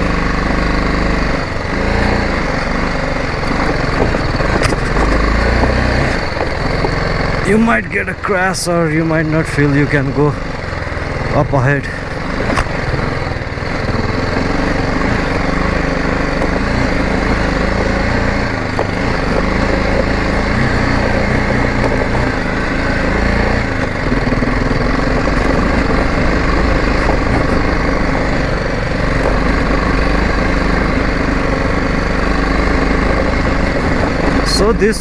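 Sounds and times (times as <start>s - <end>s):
motorcycle engine under load: 0.0s - 35.0s.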